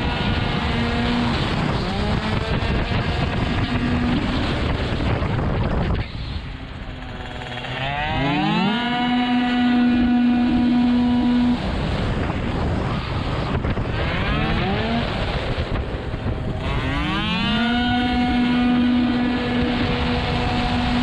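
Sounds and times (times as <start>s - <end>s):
scooter engine revving: 0.0s - 21.0s
wind noise on microphone: 0.0s - 21.0s.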